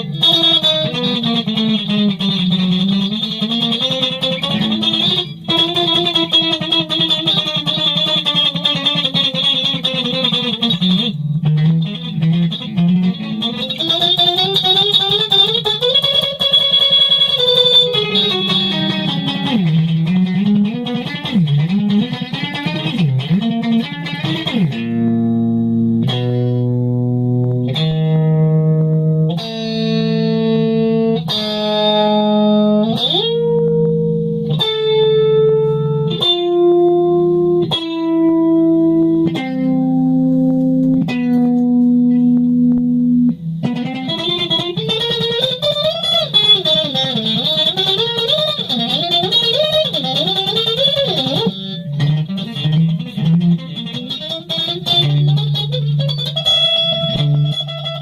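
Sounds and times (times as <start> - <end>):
solo guitar improvisation: 0.0 - 58.0.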